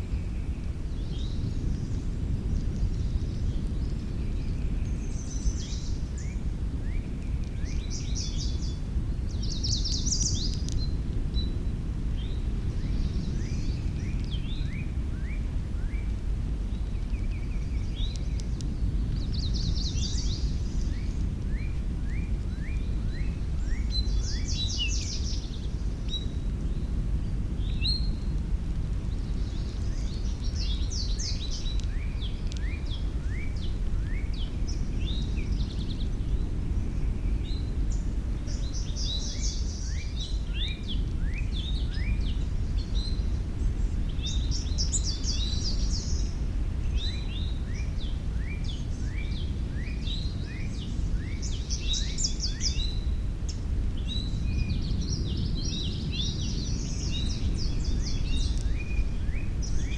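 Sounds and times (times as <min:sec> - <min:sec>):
low background rumble: 0:00.0 - 0:59.9
songbirds chirping and trilling: 0:00.0 - 0:59.9.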